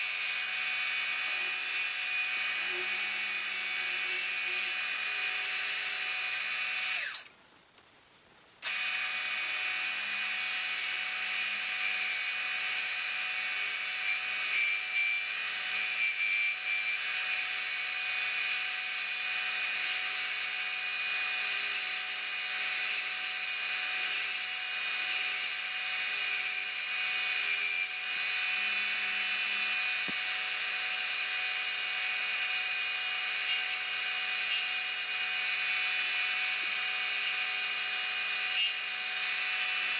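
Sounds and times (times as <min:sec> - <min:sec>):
power tool cutting wood: 0:00.0 - 0:07.3, 0:08.6 - 0:39.9.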